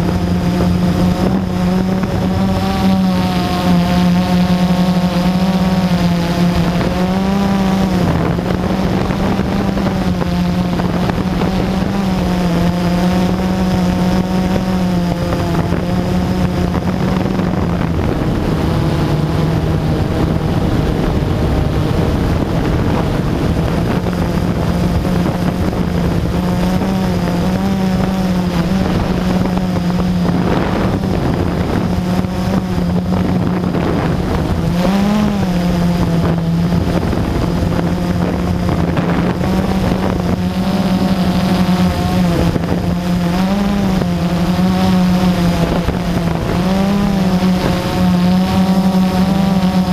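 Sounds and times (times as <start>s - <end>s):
quadcopter motors buzzing: 0.0s - 49.9s
wind on microphone: 0.0s - 49.9s.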